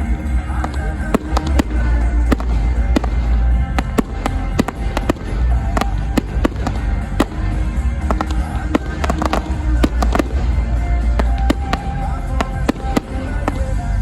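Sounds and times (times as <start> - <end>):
fireworks bangs: 0.0 - 14.0
music playing: 0.0 - 14.0.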